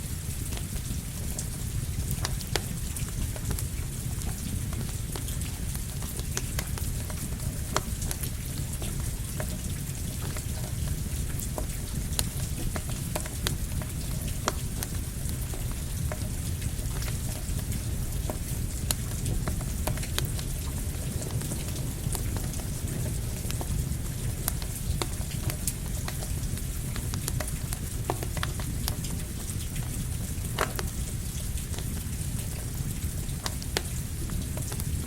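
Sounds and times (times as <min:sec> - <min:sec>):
steady rain: 0:00.0 - 0:35.0
campfire crackling: 0:00.1 - 0:35.0.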